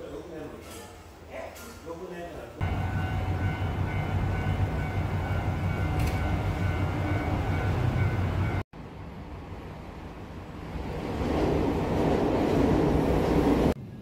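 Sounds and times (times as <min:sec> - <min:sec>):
train rumbling on elevated line: 0:02.6 - 0:14.0.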